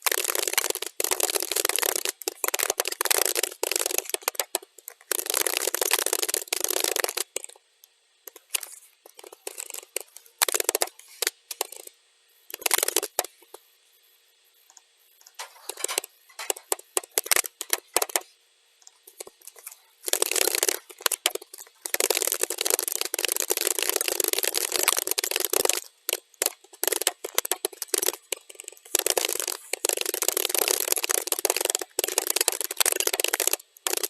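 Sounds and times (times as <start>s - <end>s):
keyboard typing: 0.0s - 7.6s, 8.3s - 11.9s, 12.5s - 13.4s, 15.2s - 18.2s, 19.1s - 34.0s.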